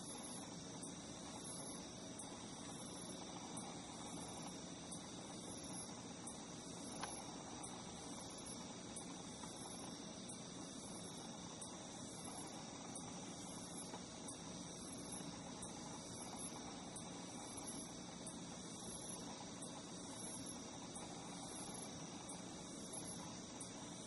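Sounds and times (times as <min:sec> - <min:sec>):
higher pulsing insect call: 0:00.0 - 0:24.0
insects trilling: 0:00.0 - 0:24.0.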